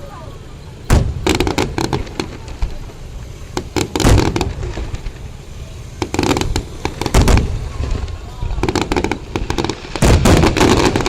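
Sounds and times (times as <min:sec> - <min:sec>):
crackling firework pops: 0:00.9 - 0:11.0
deep firework booms: 0:00.9 - 0:11.0.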